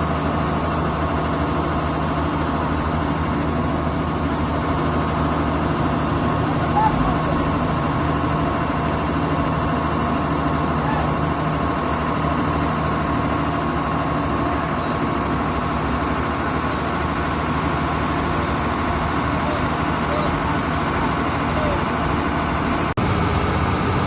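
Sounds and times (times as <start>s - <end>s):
road-paving machinery droning: 0.0s - 24.0s.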